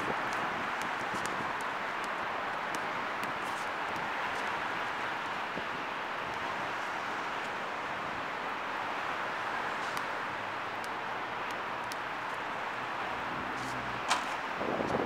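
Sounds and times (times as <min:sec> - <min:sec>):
distant traffic hiss: 0:00.0 - 0:15.0.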